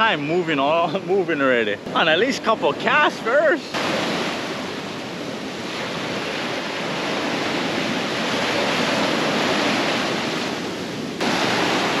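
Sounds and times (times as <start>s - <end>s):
ocean surf washing on sand: 0.0s - 12.0s.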